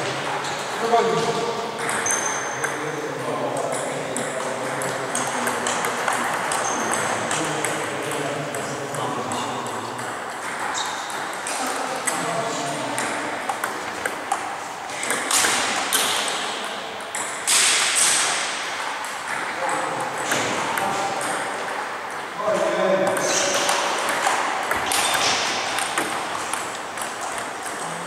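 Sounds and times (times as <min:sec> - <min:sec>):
background voices chattering: 0:00.0 - 0:28.0
table tennis balls clicking: 0:00.1 - 0:28.0.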